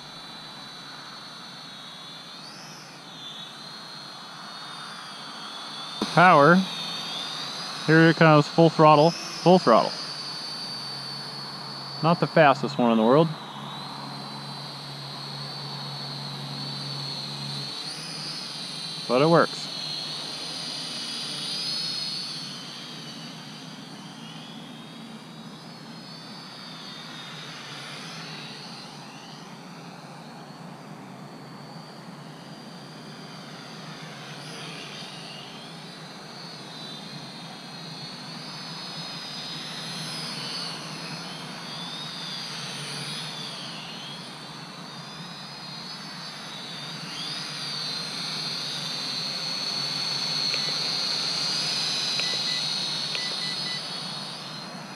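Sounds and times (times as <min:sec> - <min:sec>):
drone propellers whining: 0:00.0 - 0:54.9.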